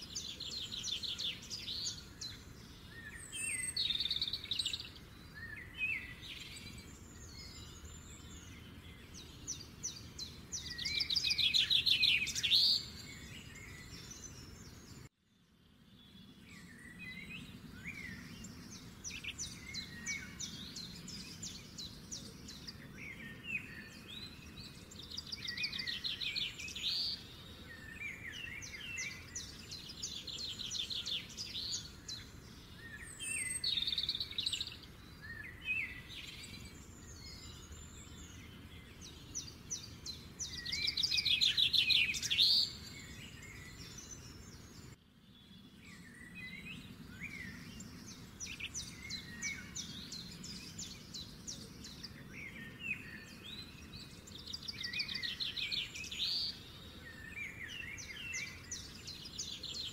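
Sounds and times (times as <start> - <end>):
birds chirping and trilling: 0.0 - 59.9.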